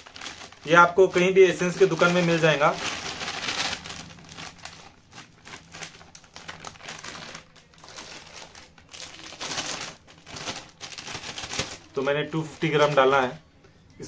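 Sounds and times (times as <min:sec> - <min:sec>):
plastic packet crinkling: 0:00.0 - 0:13.4.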